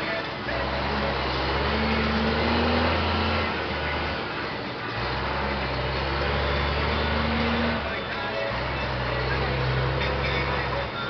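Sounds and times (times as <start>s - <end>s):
diesel truck engine pulling: 0.0s - 11.0s.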